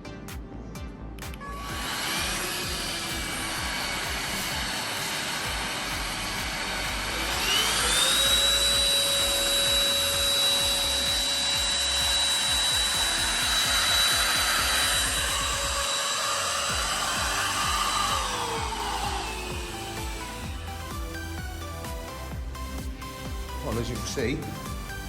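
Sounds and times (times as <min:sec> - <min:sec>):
vacuum cleaner motor whining: 0:01.6 - 0:22.3.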